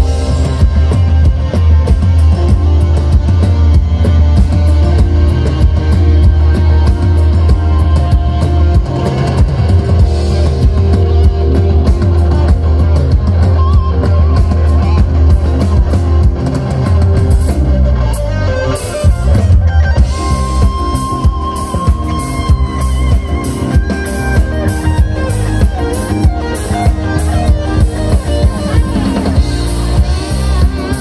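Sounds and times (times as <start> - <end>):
drum kit: 0.0 - 31.0
electric guitar lead: 0.0 - 31.0
keyboard: 0.0 - 31.0.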